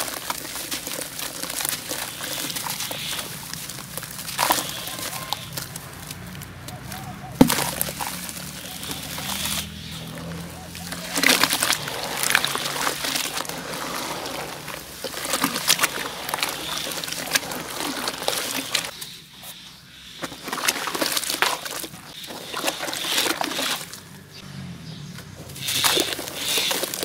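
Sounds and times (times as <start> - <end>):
hands sloshing water in a basin: 0.0 - 6.1, 7.2 - 19.0, 20.2 - 24.0
water splashes: 0.0 - 19.0, 20.2 - 24.3, 25.6 - 27.0.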